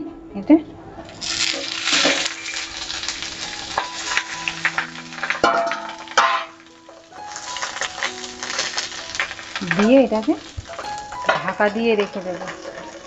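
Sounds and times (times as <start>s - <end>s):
oil sizzling in a pan: 1.1s - 13.0s.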